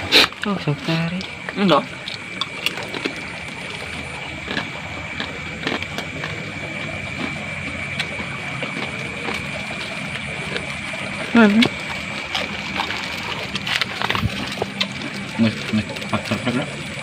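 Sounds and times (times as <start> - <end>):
night insect chorus: 0.0 - 17.0.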